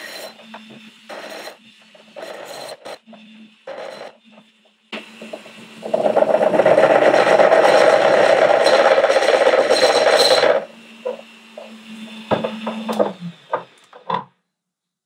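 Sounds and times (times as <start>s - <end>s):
drill bit grinding glass: 0.0s - 14.1s
drill motor hum: 0.0s - 14.2s.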